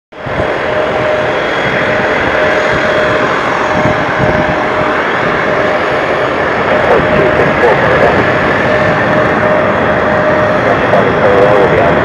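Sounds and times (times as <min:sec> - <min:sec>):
faint engine whine: 0:00.1 - 0:12.0
jet engines rushing: 0:00.1 - 0:12.0.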